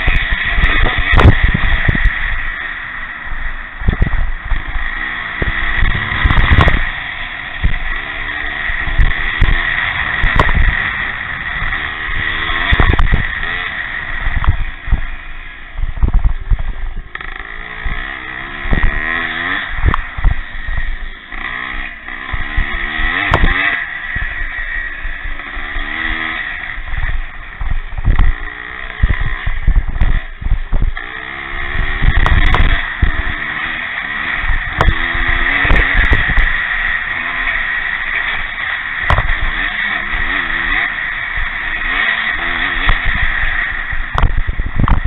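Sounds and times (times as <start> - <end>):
low thumps: 0.0 - 2.5, 3.2 - 8.0, 8.6 - 21.1, 22.3 - 26.2, 26.8 - 40.3, 42.4 - 45.0
motorcycle engines revving: 0.0 - 45.0.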